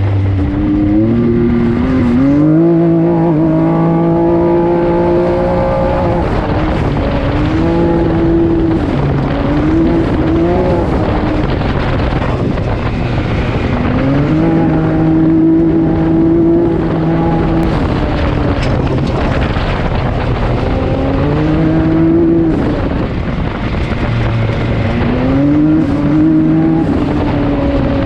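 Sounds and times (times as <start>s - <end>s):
off-road vehicle engine under load: 0.0s - 28.0s
rough wind noise: 0.0s - 28.0s.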